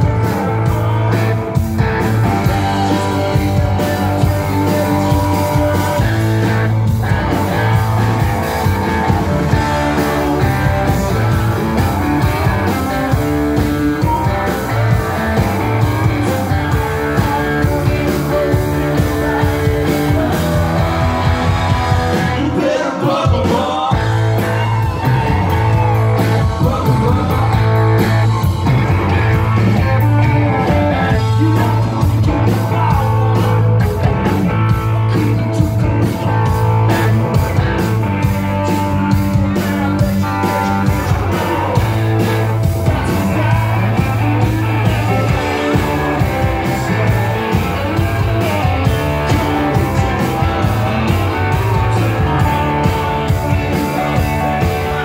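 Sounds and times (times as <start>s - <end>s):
drum beat: 0.0s - 22.6s, 23.2s - 55.0s
electric guitar: 0.0s - 55.0s
man singing: 0.0s - 55.0s.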